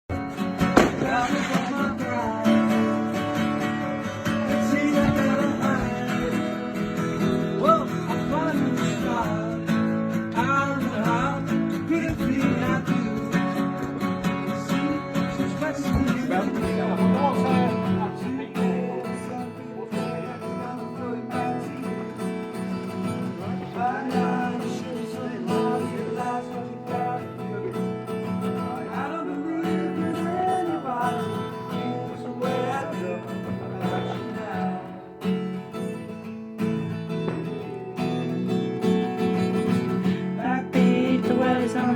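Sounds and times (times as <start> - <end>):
music with strummed acoustic guitar: 0.1 - 41.9.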